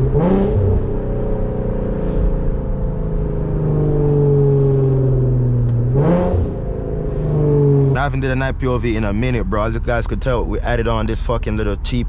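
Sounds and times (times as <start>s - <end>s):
car engine droning while driving: 0.0s - 12.0s.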